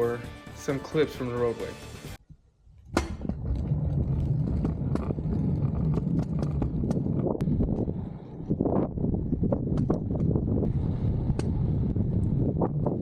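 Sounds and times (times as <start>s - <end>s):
tyres and wind rumbling: 2.2s - 13.0s.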